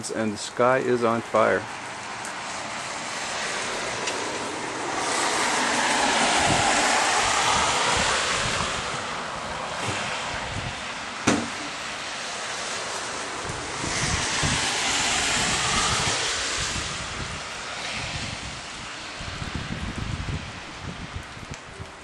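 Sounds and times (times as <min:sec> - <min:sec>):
tyre hiss on wet road: 0:01.7 - 0:21.2.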